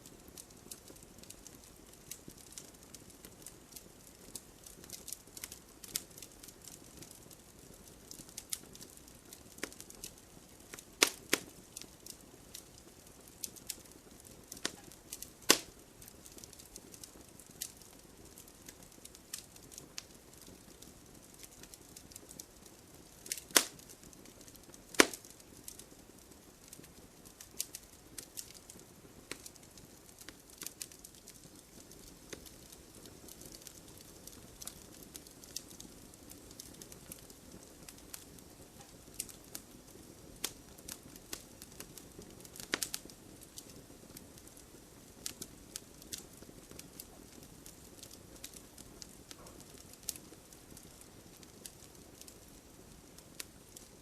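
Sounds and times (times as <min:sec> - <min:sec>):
burning logs popping: 0:00.0 - 0:54.0
wood fire hissing and crackling: 0:00.0 - 0:54.0.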